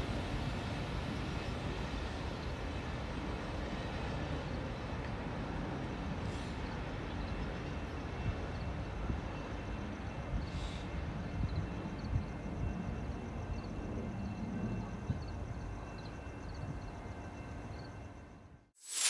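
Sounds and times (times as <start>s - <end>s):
freight train wheels rumbling: 0.0s - 17.6s.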